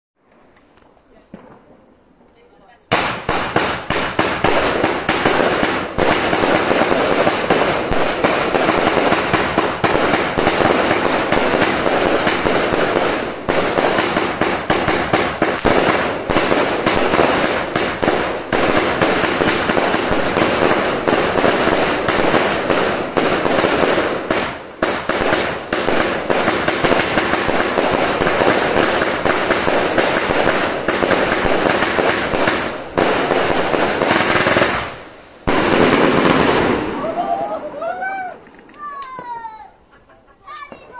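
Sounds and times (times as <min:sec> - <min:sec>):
firework cake launches and bursts: 0:01.0 - 0:39.8.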